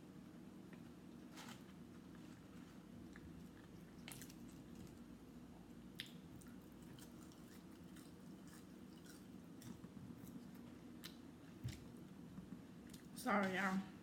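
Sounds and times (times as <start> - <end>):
steady low hum: 0.0 - 14.0
person chewing food: 0.7 - 12.0.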